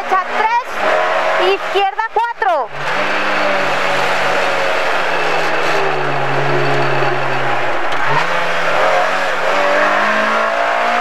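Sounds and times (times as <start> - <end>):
rally car engine from cockpit: 0.0 - 11.0.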